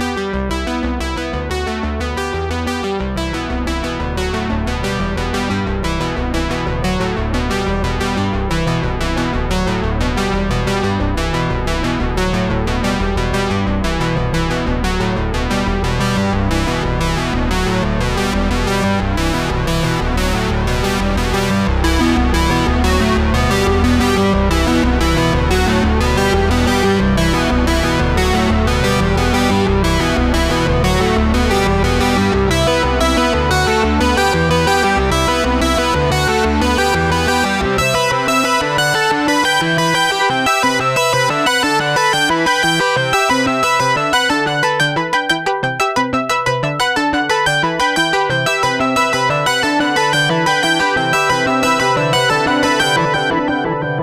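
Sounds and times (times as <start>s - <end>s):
electronic keyboard and synthesizer music: 0.0s - 54.0s.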